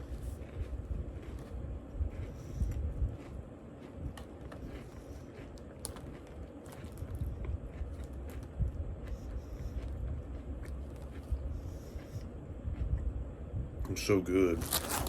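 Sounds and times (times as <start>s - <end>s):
person chewing cookie crunchily: 0.0s - 13.6s, 14.5s - 15.0s.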